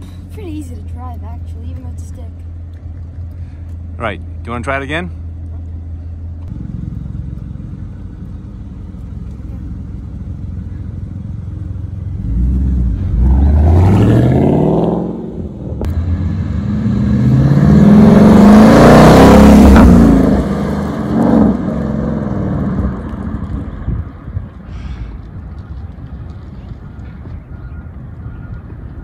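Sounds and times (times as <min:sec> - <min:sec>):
car engine accelerating: 0:00.0 - 0:24.6.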